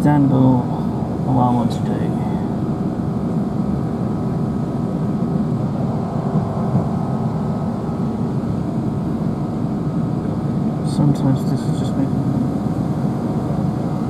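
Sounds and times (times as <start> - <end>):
faint steady whine: 0.0 - 14.0
train engine and rail rumble: 0.0 - 14.0.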